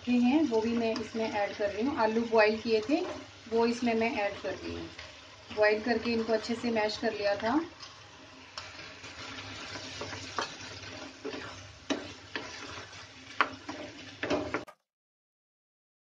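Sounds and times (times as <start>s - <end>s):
food sizzling in a pan: 0.0s - 14.8s.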